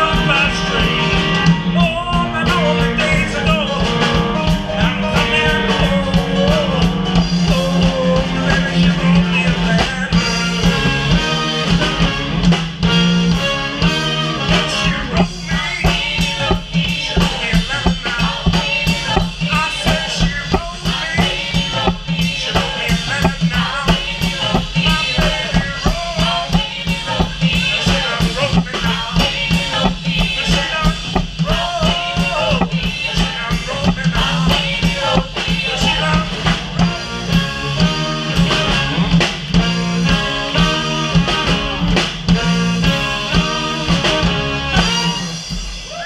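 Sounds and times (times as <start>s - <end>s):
saxophone: 0.0s - 30.8s, 31.5s - 46.0s
bass line: 0.0s - 46.0s
drum kit beat: 0.0s - 46.0s
people singing: 0.0s - 46.0s.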